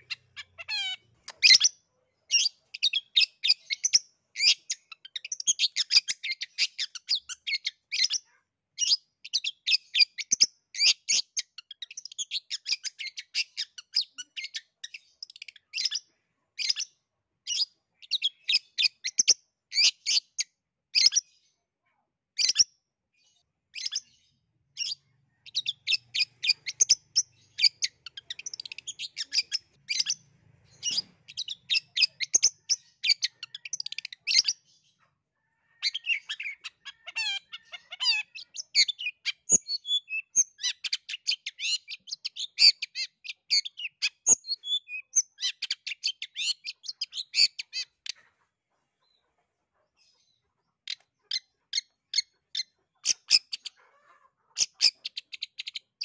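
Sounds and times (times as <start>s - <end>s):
bird singing rapid high chirps: 0.0s - 21.4s, 22.4s - 48.2s, 50.8s - 53.8s, 54.6s - 56.0s.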